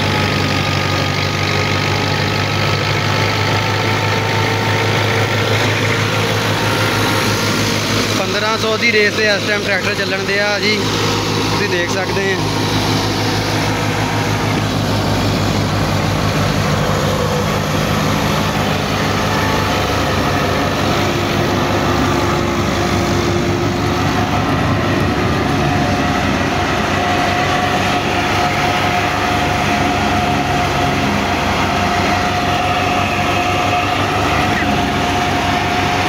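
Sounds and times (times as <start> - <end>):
machinery whine: 0.0 - 36.0
threshing machine clattering: 0.0 - 36.0
tractor diesel engine running: 0.0 - 36.0.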